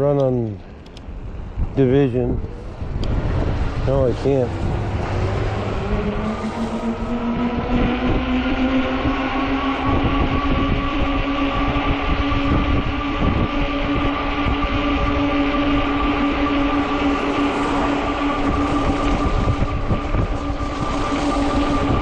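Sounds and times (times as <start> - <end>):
tyres rumbling: 0.0 - 22.0
wind: 0.0 - 22.0
electric motor whining: 2.1 - 22.0.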